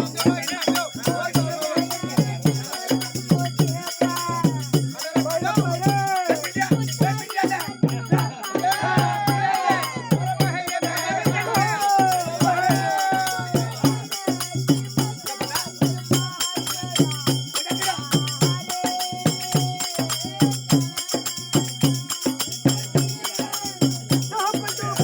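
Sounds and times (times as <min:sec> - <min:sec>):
held sung melodic line: 0:00.0 - 0:25.0
jingling hand percussion: 0:00.0 - 0:25.0.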